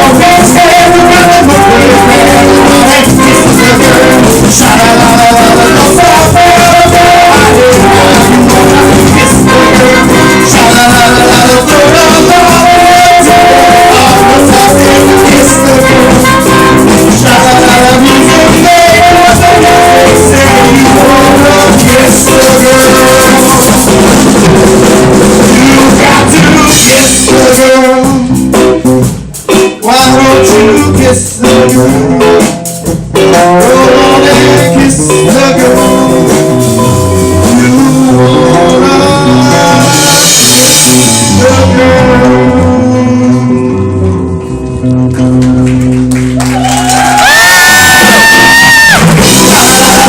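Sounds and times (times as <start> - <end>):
rock band playing loudly: 0.0 - 50.0.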